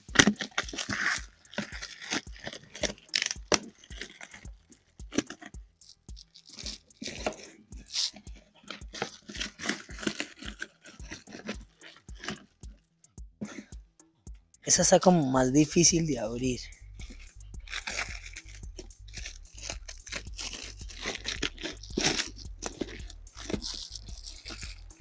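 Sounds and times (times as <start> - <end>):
scissors cutting tape and cardboard: 0.0 - 12.8, 17.0 - 25.0.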